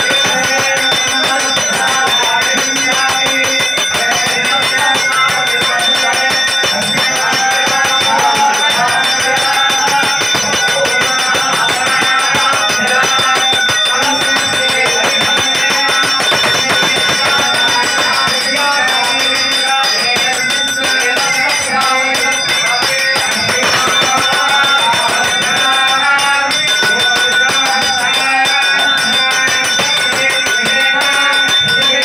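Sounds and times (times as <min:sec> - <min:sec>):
temple bells ringing rapidly: 0:00.0 - 0:32.0.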